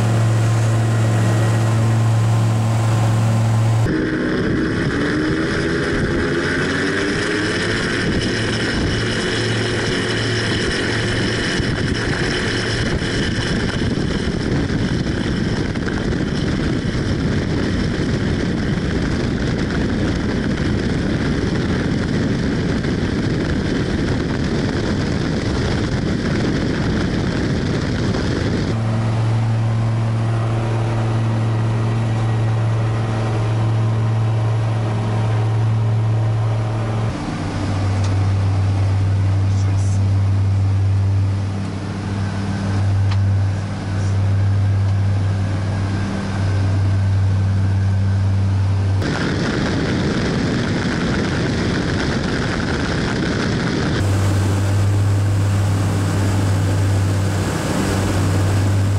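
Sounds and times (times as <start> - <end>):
dense rushing noise: 0.0 - 58.9
propeller aircraft engines: 0.0 - 58.9.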